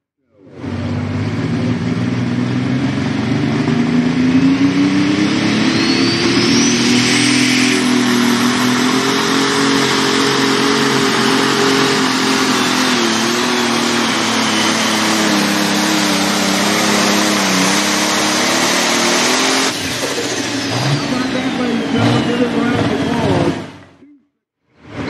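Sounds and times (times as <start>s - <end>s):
diesel engine running flat out: 0.3s - 23.9s.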